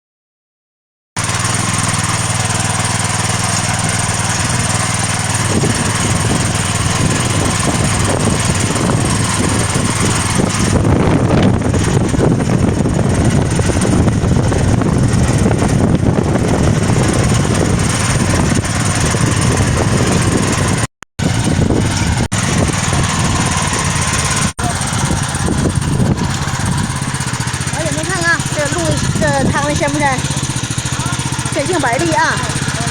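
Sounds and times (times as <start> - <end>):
diesel engine running under load: 1.2 - 32.9.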